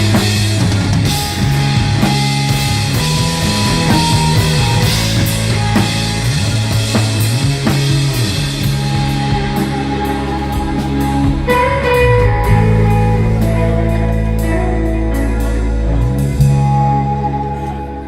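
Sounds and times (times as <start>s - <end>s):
drum kit hits: 0.0s - 14.6s
bass line: 0.0s - 18.0s
guitar holding a high note: 1.0s - 18.0s.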